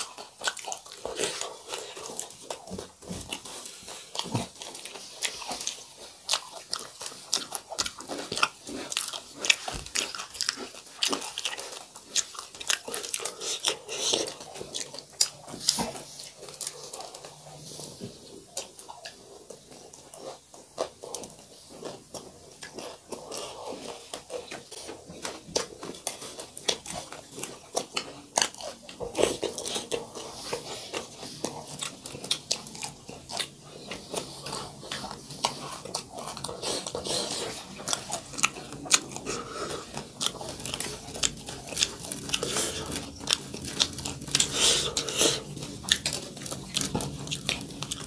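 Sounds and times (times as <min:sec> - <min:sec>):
chewing crunchy food: 0:00.0 - 0:48.0.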